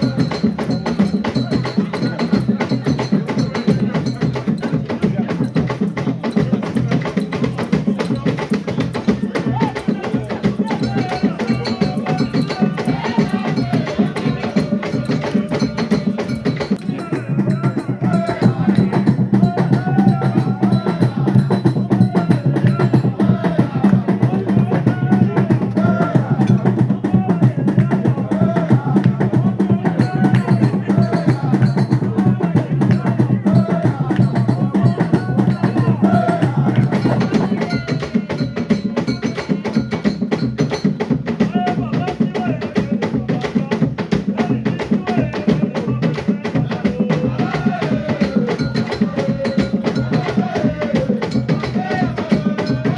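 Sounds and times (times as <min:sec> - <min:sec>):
drums and wooden percussion: 0:00.0 - 0:52.9
voices singing: 0:00.0 - 0:52.9.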